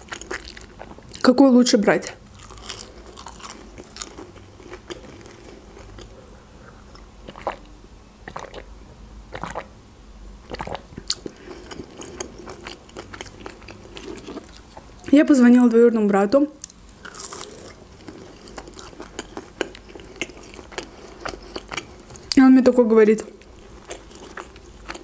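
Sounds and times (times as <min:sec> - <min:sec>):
chewing crunchy food: 0:00.0 - 0:01.3, 0:02.2 - 0:08.7, 0:10.5 - 0:15.2, 0:16.6 - 0:22.4, 0:23.2 - 0:25.0.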